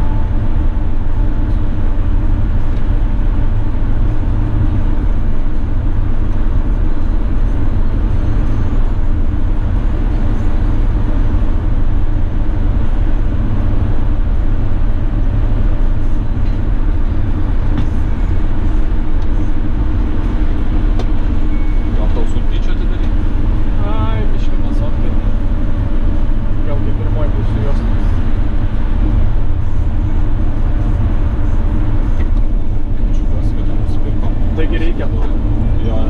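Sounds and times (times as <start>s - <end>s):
tyres wind and engine rumble: 0.0s - 36.0s.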